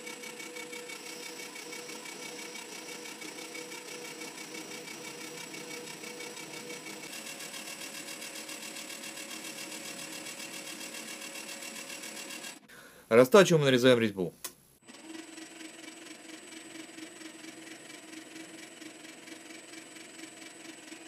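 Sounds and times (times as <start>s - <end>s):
metal lathe humming with pulsing: 0.0s - 12.7s, 14.9s - 21.0s.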